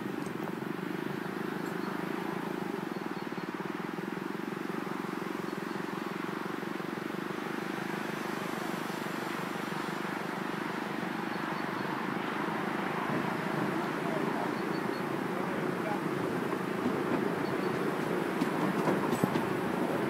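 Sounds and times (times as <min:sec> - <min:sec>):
miniature train running on track: 0:00.0 - 0:20.0.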